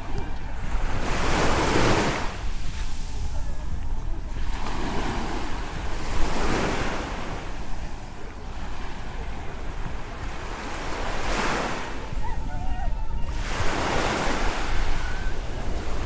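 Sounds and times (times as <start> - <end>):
small waves washing on sand: 0.0 - 16.0
wind rumble on microphone: 0.0 - 16.0.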